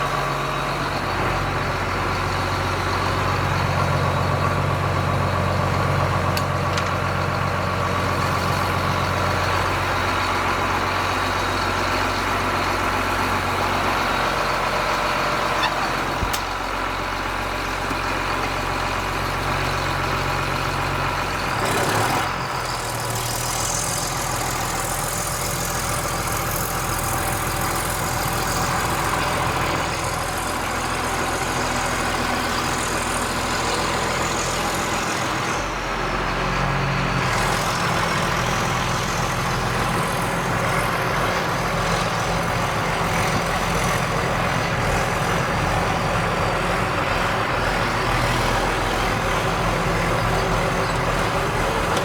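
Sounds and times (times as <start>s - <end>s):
heavy diesel engine idling: 0.0s - 52.0s.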